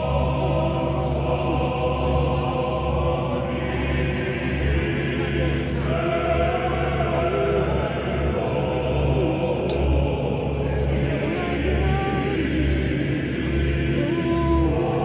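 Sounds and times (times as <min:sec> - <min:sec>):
choir singing held notes: 0:00.0 - 0:15.0
steady low hum: 0:00.0 - 0:15.0.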